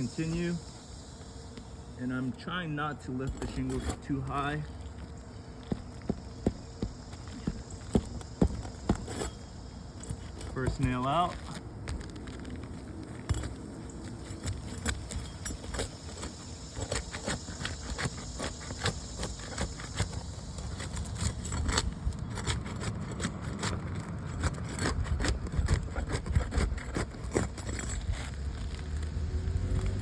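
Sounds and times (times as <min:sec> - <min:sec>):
pry bar scraping and clicking: 0:03.2 - 0:05.9, 0:07.1 - 0:28.8.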